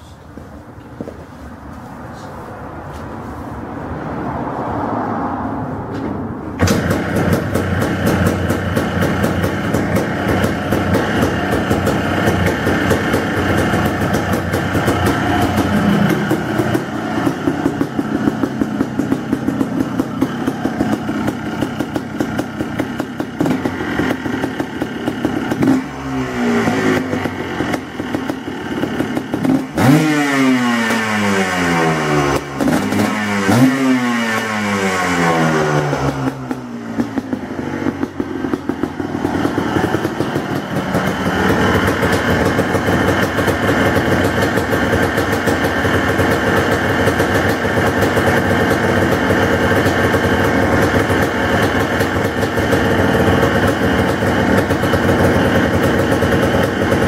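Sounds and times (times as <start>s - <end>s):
engine revving: 6.6s - 57.0s
two-stroke engine idling: 6.6s - 57.0s.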